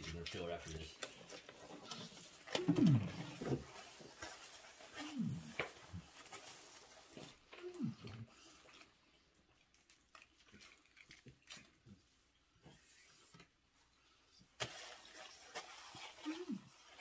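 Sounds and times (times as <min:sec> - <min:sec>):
chewing crunchy candy: 0:00.0 - 0:12.1, 0:14.7 - 0:17.0.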